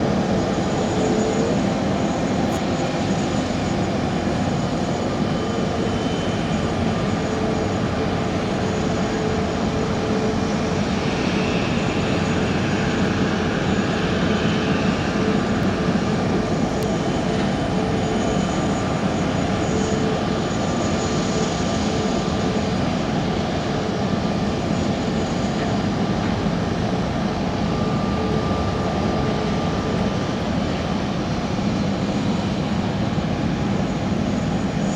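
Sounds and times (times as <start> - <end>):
jet turbines running: 0.0 - 34.9.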